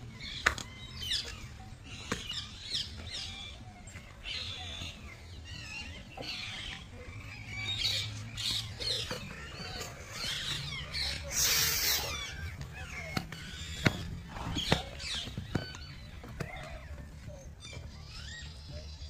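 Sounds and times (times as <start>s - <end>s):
birds squawking and chirping: 0.0s - 19.0s.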